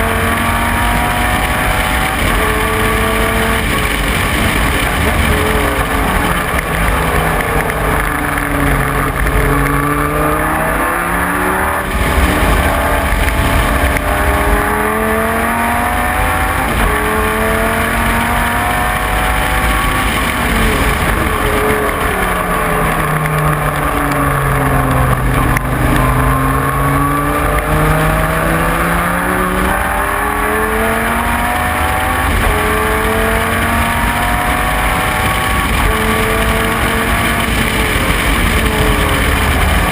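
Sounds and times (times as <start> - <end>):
racing car engine changing gear: 0.0 - 39.9.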